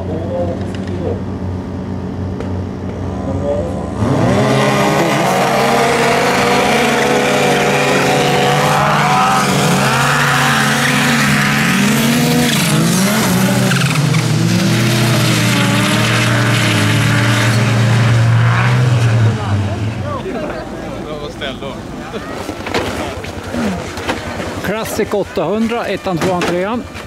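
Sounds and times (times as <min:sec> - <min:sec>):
snowmobile engines at full throttle: 0:03.1 - 0:27.0.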